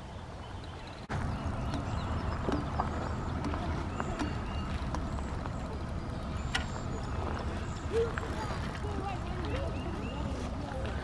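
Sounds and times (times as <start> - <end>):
high bird chirps: 0.0 - 10.5
low outdoor rumble: 0.0 - 11.0.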